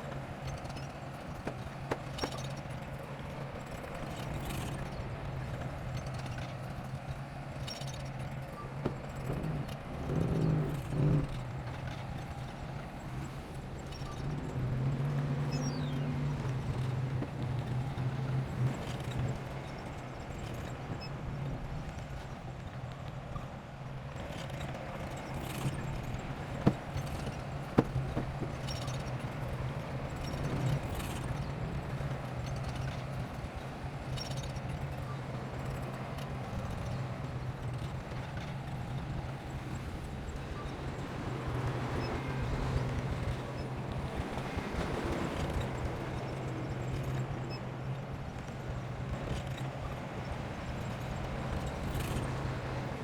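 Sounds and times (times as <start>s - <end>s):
bulldozer diesel engine: 0.0s - 20.9s, 24.2s - 53.0s.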